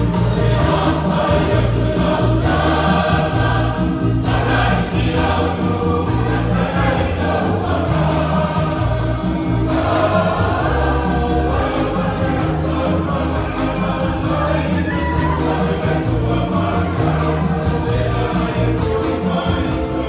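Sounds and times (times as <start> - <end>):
church choir singing: 0.0 - 20.0
instrumental backing with bass line: 0.0 - 20.0.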